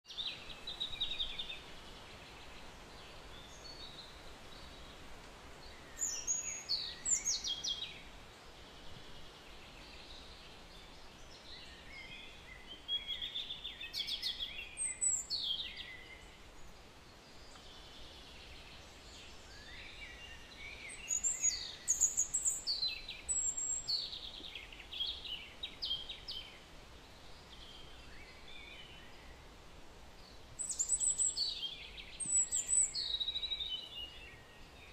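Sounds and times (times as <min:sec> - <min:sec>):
birds chirping: 0:00.0 - 0:34.9
faint background hiss: 0:00.1 - 0:34.9.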